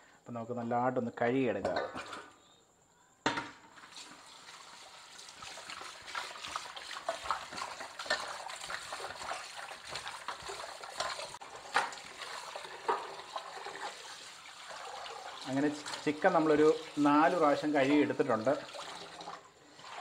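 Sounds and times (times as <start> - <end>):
water sloshing and splashing: 3.7 - 20.0.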